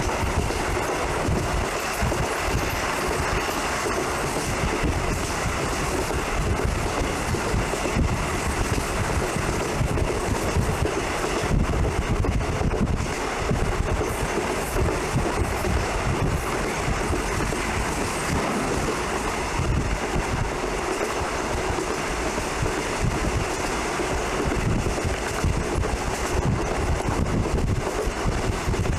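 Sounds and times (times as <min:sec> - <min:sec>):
train wheels rumbling on track: 0:00.0 - 0:28.9.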